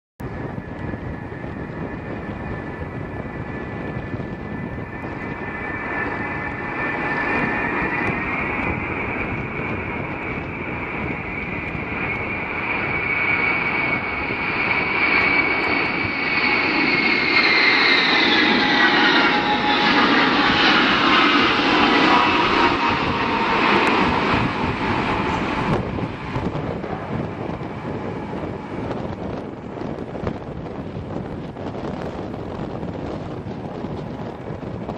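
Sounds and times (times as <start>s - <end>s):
aircraft engines whining: 0.2s - 34.9s.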